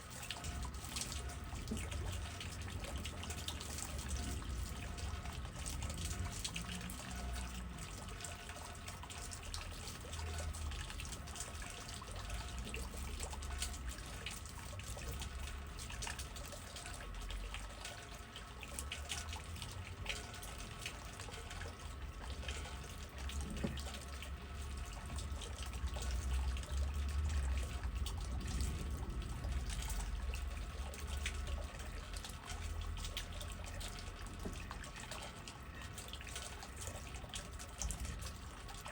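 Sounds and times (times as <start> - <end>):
rain drips and patters: 0.0 - 38.9.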